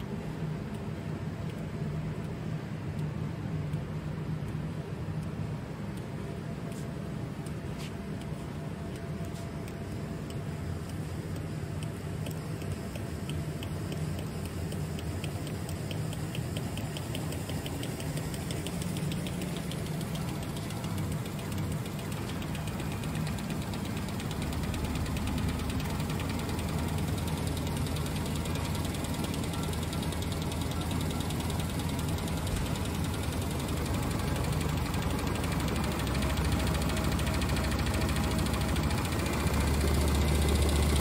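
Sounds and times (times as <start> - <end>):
light regular ticking: 0.0 - 41.0
machine humming: 0.0 - 41.0.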